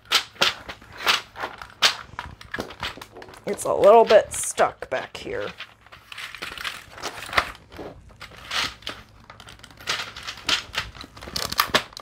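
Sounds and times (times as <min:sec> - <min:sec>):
plastic clicks and creaks: 0:00.0 - 0:04.2, 0:05.5 - 0:12.0.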